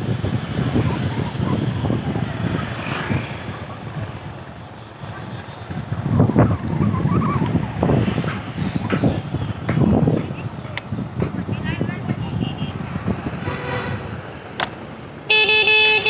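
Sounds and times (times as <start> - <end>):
wind buffeting microphone: 0.0 - 15.0
road noise: 0.0 - 16.0.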